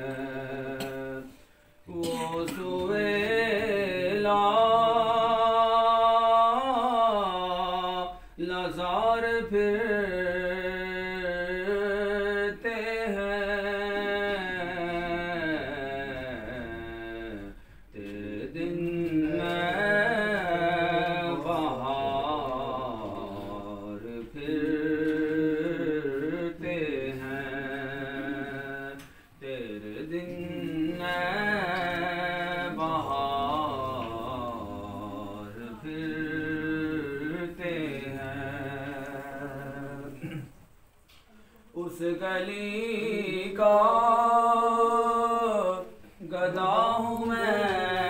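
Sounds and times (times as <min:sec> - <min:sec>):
person singing unaccompanied: 0:00.0 - 0:40.4, 0:41.8 - 0:48.0.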